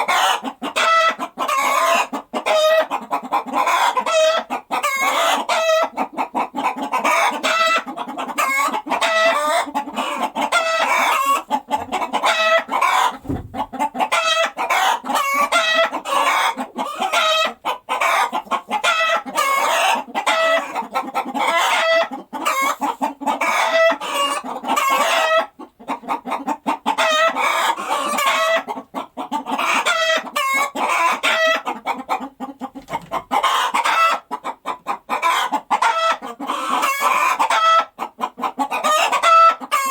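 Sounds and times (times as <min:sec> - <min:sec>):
hens cackling and clucking: 0:00.0 - 0:39.9.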